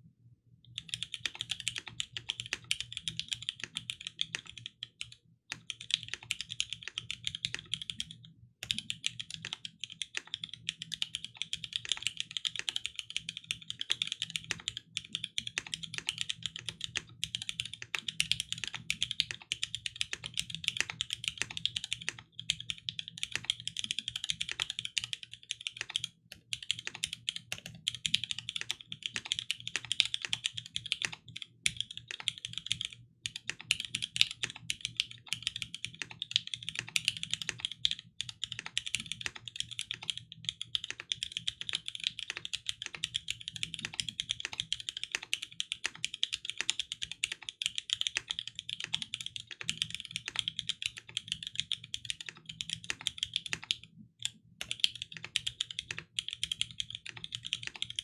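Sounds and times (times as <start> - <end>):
fast mechanical keyboard typing: 0.8 - 58.0.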